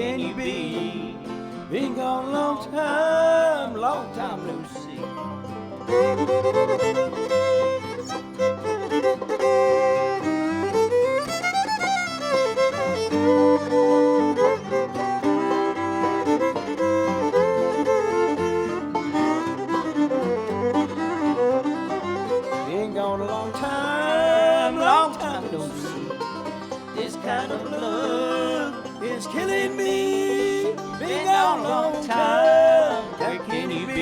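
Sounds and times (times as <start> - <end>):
fiddle melody with sliding notes: 0.0 - 34.0
string band backing: 0.0 - 34.0.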